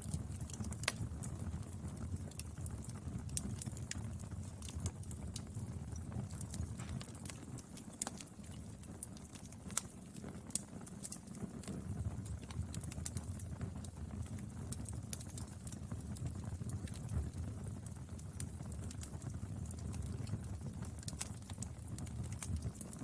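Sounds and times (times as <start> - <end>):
firewood crackling and popping: 0.0 - 23.0
low fire rumble: 0.0 - 23.0.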